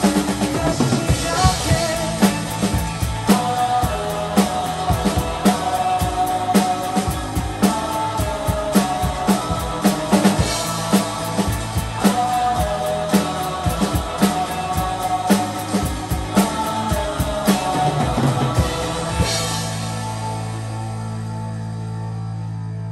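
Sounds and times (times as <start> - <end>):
drum kit playing: 0.0 - 21.5
pop-rock backing track: 0.0 - 22.9.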